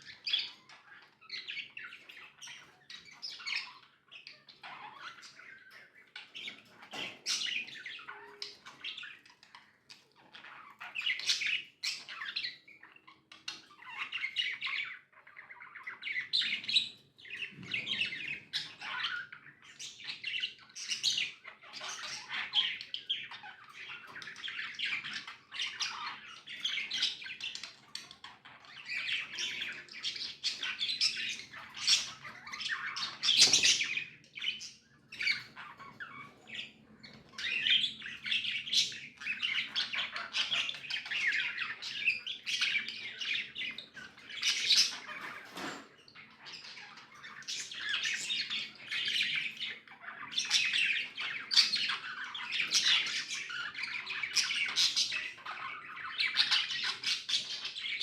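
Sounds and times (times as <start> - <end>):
budgerigars chirping and chattering: 0.0 - 58.0.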